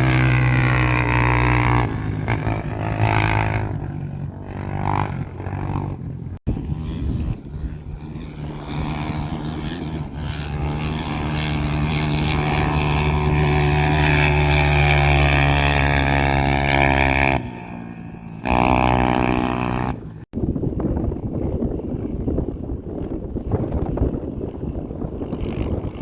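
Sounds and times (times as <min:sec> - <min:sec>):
motorcycle engine revving: 0:00.0 - 0:26.0
motorcycle engine running: 0:00.0 - 0:26.0.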